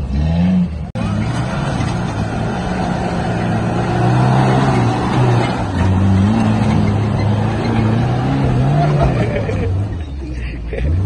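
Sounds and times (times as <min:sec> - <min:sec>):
car engine under load: 0:00.0 - 0:11.0.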